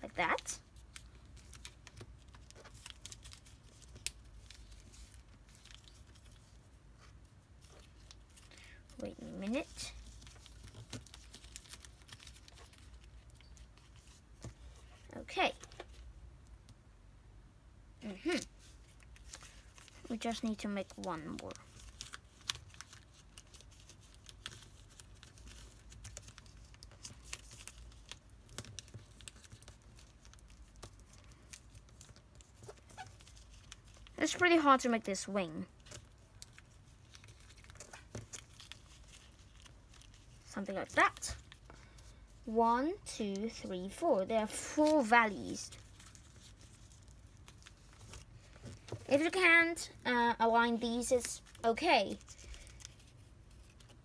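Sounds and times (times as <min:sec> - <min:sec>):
paper rustling and crinkling: 0:00.2 - 0:16.1, 0:18.0 - 0:42.5, 0:43.3 - 0:49.5, 0:50.6 - 0:54.0
sharp paper crackle: 0:00.2 - 0:16.1, 0:18.1 - 0:49.5, 0:50.4 - 0:54.0.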